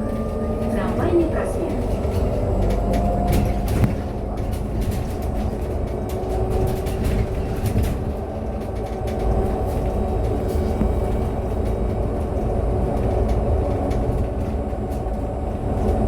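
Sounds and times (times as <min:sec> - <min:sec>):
bus road rumble: 0:00.0 - 0:16.0
rattles and knocks from bus body: 0:00.0 - 0:16.0.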